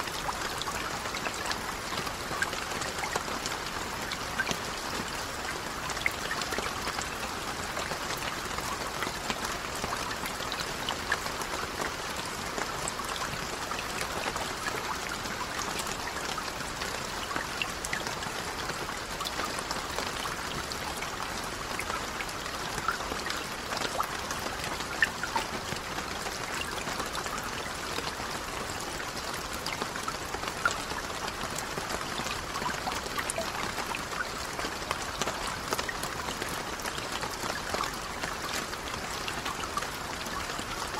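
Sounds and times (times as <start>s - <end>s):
rain falling on water: 0.0s - 40.9s.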